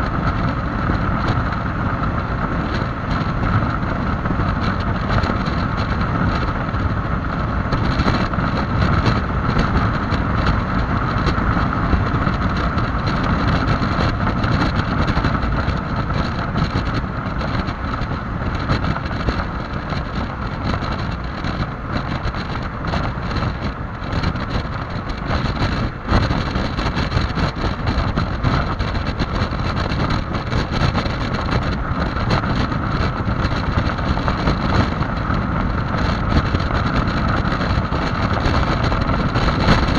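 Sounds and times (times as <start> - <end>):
scooter engine droning: 0.0 - 39.9
wind buffeting microphone: 0.0 - 39.9.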